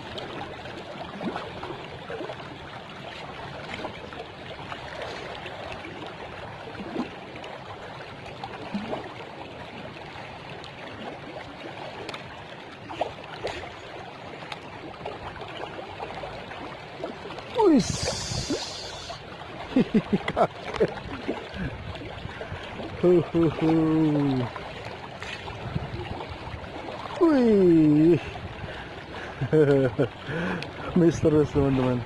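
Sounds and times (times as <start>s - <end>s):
river water rushing: 0.0s - 32.0s
small splashes: 0.0s - 32.0s.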